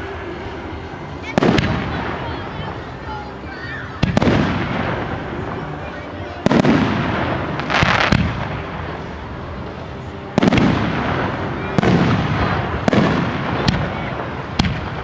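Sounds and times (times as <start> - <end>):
fireworks bursting with bangs: 0.0 - 15.0.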